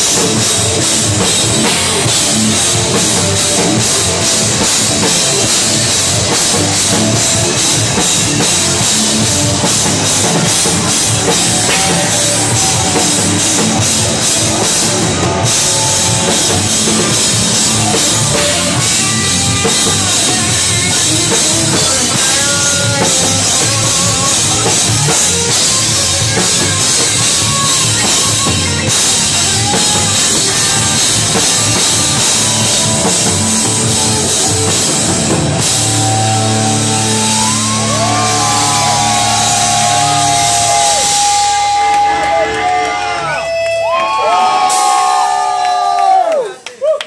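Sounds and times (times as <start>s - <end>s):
live rock band playing: 0.0s - 46.0s
pounding drum kit: 0.0s - 46.4s.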